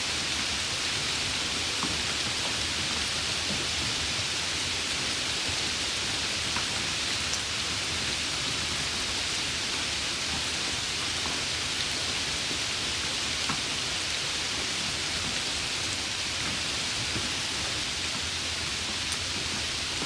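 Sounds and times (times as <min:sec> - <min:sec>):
rain falling in an even hiss: 0:00.0 - 0:20.0.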